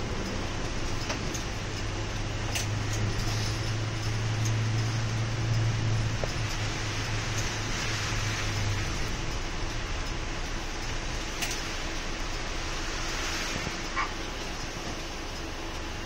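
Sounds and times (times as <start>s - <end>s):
bus engine drone: 0.0s - 16.0s
fan-like hiss: 0.0s - 16.0s.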